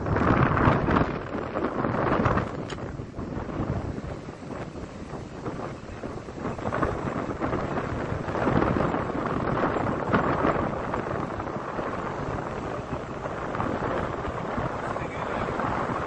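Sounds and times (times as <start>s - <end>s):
choppy river waves: 0.0s - 16.0s
wind buffeting microphone: 0.0s - 16.0s.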